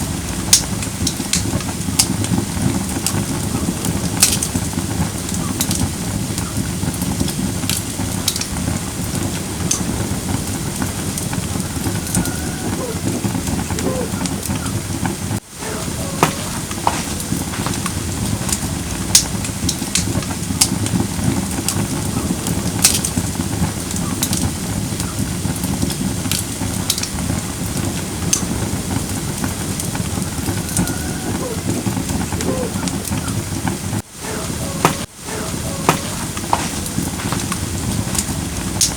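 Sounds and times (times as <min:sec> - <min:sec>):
campfire flames rushing: 0:00.0 - 0:38.9
firewood crackling and popping: 0:00.0 - 0:38.9.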